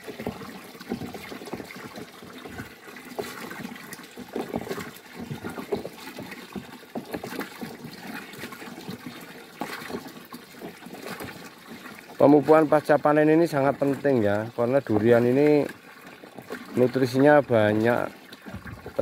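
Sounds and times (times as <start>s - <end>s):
liquid sloshing in plastic drum: 0.0s - 19.0s
water running from hose: 0.0s - 19.0s.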